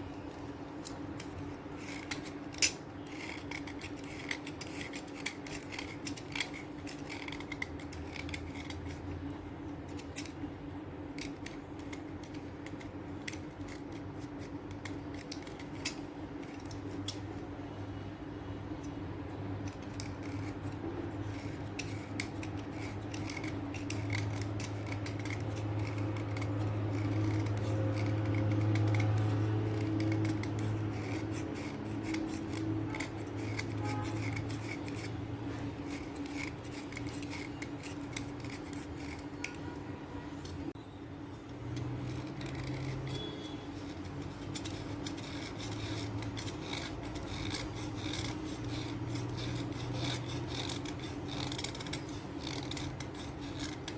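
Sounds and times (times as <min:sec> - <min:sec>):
pencils scraping and scratching: 0:00.0 - 0:17.6, 0:18.7 - 0:53.9
steady low hum: 0:00.0 - 0:53.9.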